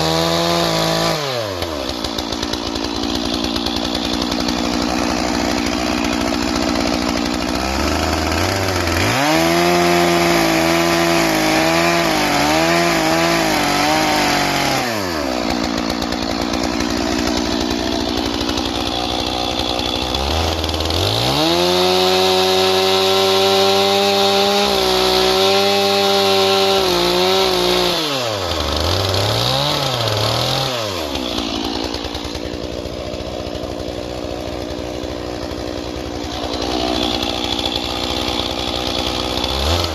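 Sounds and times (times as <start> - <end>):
chainsaw cutting through log: 0.0 - 39.9
chainsaw idling and revving: 0.0 - 39.9.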